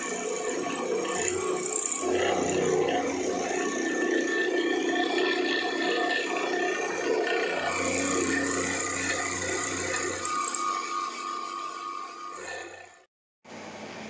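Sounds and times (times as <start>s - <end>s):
spindle milling steel: 0.0s - 13.0s.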